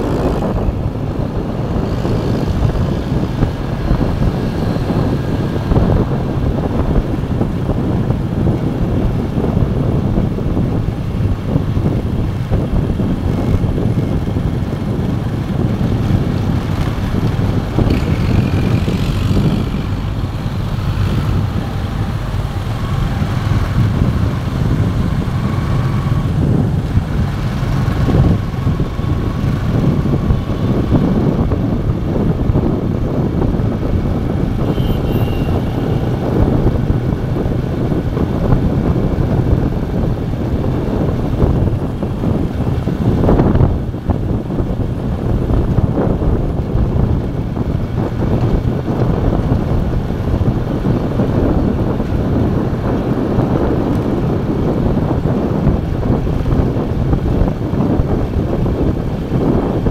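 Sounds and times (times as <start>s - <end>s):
motorcycle engine running: 0.0s - 59.9s
road noise: 0.0s - 59.9s
wind buffeting microphone: 0.0s - 59.9s.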